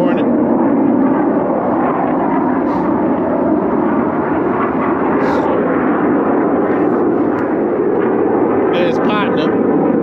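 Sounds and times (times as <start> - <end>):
jet flying overhead: 0.0 - 10.0.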